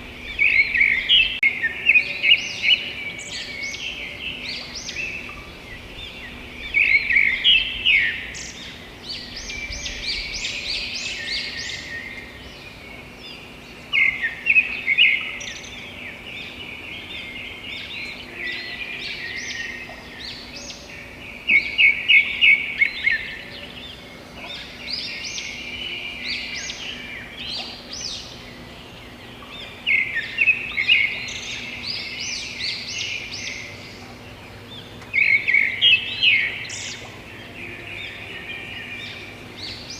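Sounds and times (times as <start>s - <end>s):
loud birdsong of rapid notes: 0.0s - 39.9s
wild birds singing and chirping: 0.0s - 39.9s.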